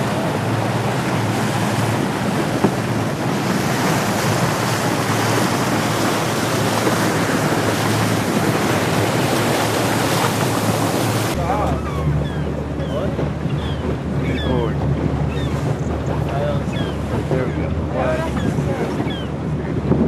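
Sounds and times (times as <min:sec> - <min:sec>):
boat motor humming: 0:00.0 - 0:20.0
water rushing past boat: 0:00.0 - 0:20.0
wind buffeting microphone: 0:00.0 - 0:20.0.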